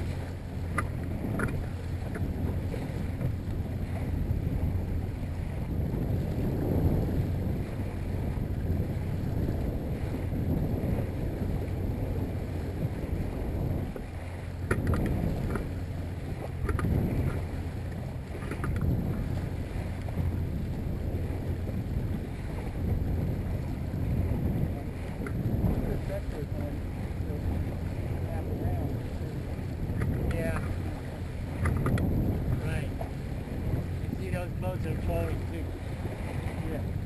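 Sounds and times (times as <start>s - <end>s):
outboard motor rumbling: 0.0s - 37.0s
water washing past hull: 0.0s - 37.0s
wind on microphone: 0.0s - 37.0s.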